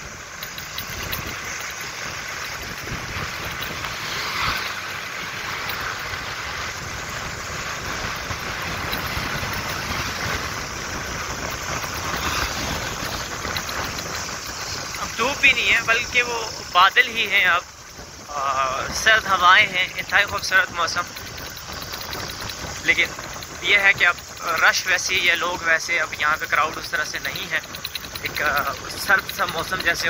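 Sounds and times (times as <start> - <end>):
vehicle engine and road noise: 0.0 - 30.0
wind rushing: 0.9 - 25.4.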